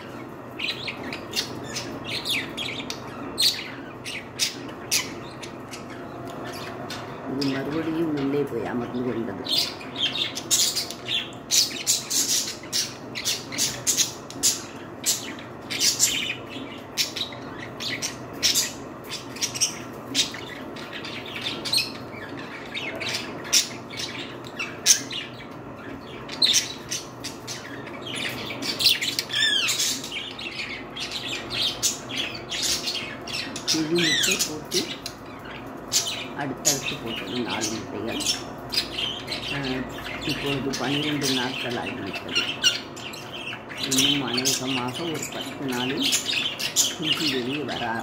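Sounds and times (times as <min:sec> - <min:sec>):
budgerigars chattering: 0:00.0 - 0:48.0.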